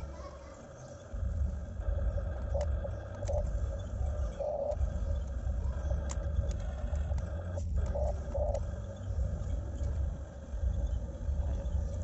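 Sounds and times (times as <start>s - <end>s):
electric motors whining: 0.0s - 12.0s
steady low rumble: 0.0s - 12.0s
sharp clicks: 1.0s - 10.8s.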